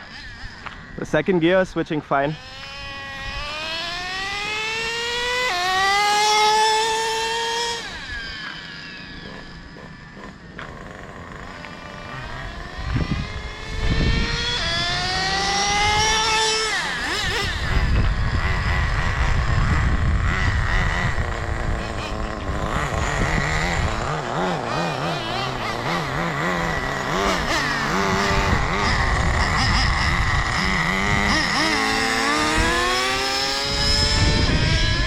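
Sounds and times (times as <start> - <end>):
nitro engine revving whine: 0.0 - 35.0.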